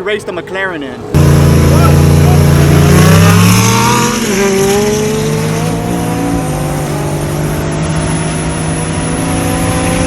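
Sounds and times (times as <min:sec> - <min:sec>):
racing engine accelerating: 0:01.2 - 0:10.0.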